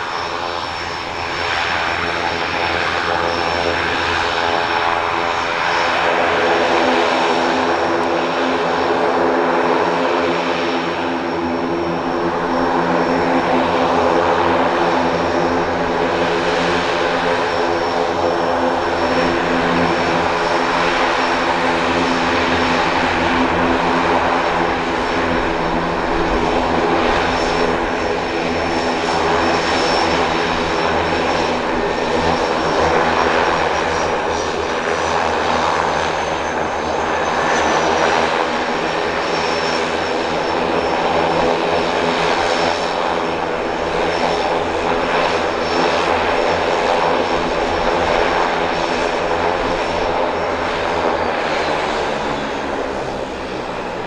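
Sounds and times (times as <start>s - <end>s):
propeller drone: 0.0s - 54.0s.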